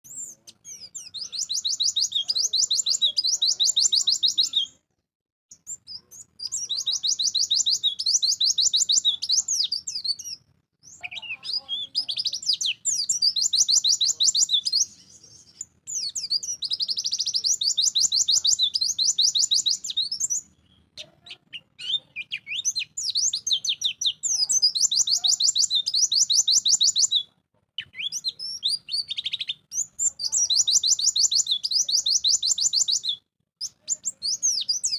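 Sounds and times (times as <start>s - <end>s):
bird singing rapid trills: 0.1s - 4.8s, 5.5s - 34.9s.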